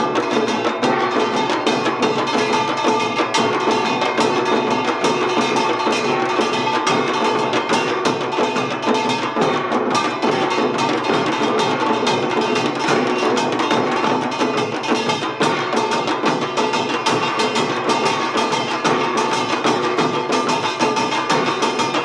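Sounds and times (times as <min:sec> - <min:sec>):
gongs and drums ensemble: 0:00.0 - 0:22.0.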